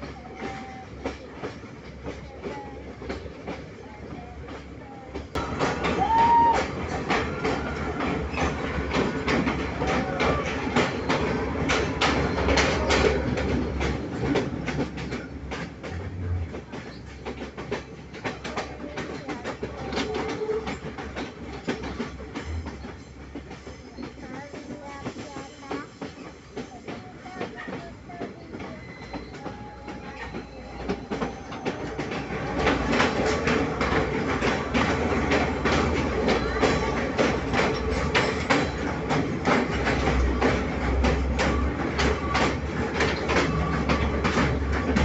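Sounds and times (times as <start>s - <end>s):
train wheels clattering on rails: 0.0s - 45.0s.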